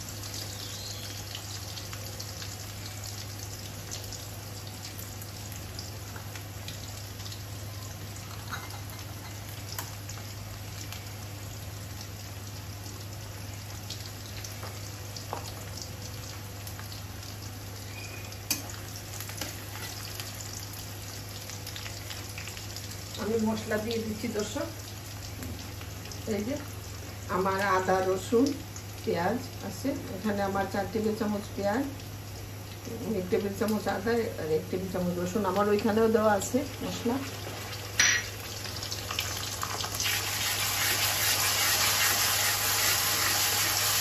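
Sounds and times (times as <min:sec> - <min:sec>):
onions sizzling in hot oil: 0:00.0 - 0:44.0.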